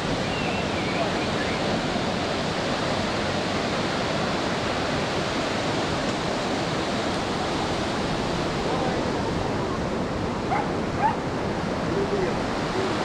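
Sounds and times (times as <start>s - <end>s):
ocean surf on sandy beach: 0.0s - 13.0s.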